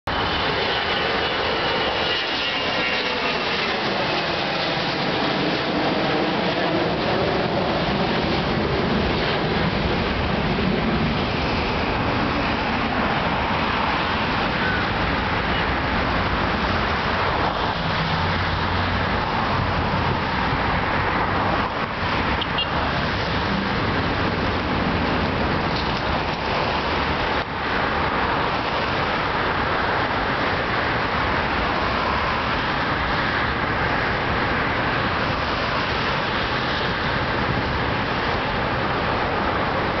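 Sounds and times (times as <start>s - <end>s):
city road traffic: 0.0s - 40.0s
airliner engines climbing: 0.1s - 40.0s.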